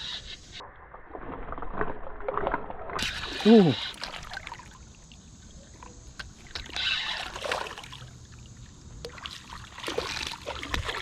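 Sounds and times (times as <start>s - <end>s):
creek water splashing: 0.9s - 11.0s.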